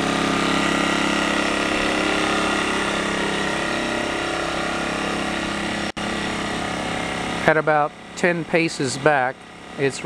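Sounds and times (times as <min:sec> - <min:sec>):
generator engine humming: 0:00.0 - 0:10.0.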